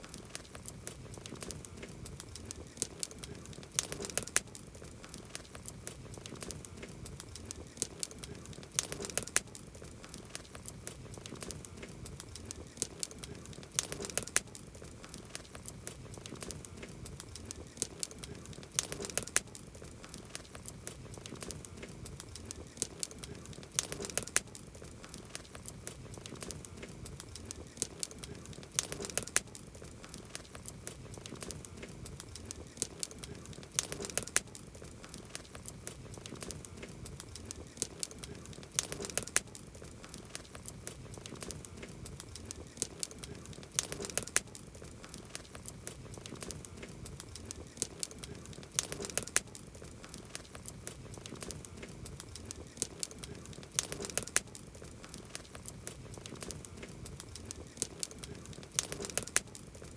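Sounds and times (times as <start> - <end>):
campfire crackling: 0.0 - 59.9
sharp fire pops: 0.0 - 59.9.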